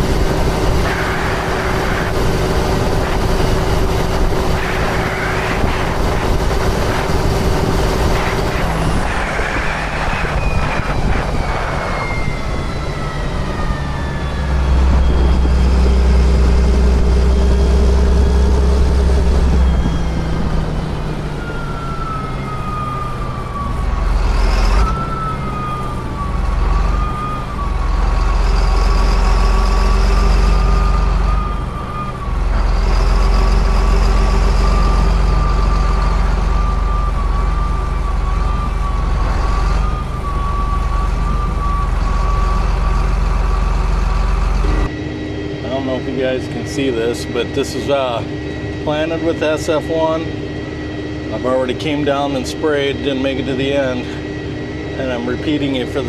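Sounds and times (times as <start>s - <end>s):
sprayer engine drone: 0.0s - 56.0s
thin whine: 0.0s - 56.0s.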